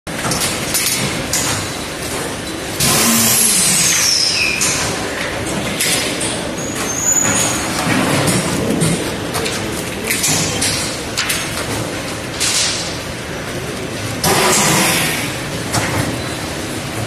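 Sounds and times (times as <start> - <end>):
packaging machine running: 0.1 - 17.0.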